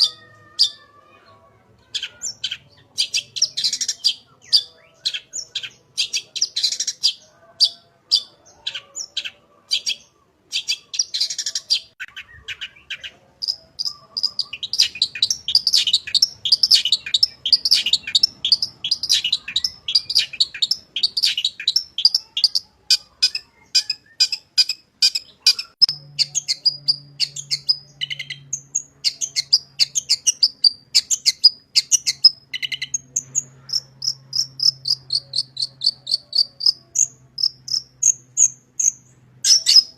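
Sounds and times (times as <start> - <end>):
bird singing high chattering notes: 0.0 - 0.9, 1.8 - 39.9.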